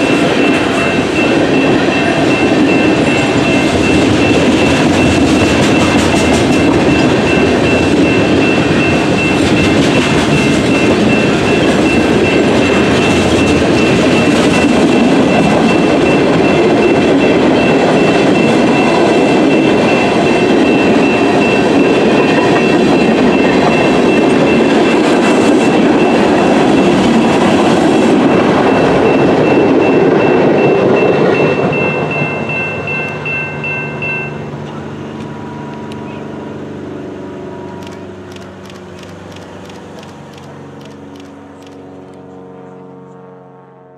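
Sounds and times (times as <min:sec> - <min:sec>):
train wheels rumbling: 0:00.0 - 0:42.3.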